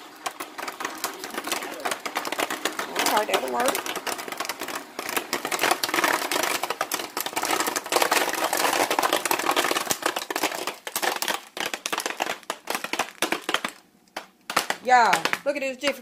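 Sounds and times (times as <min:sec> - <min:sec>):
popcorn popping: 0:00.0 - 0:16.0.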